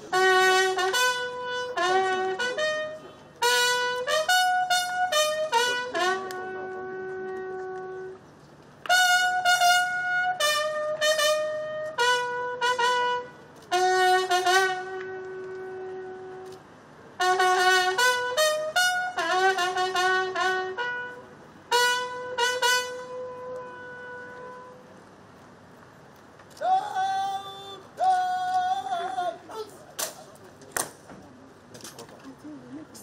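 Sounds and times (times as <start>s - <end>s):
bugle call: 0.0s - 8.2s, 8.8s - 16.6s, 17.2s - 25.0s, 26.5s - 29.8s.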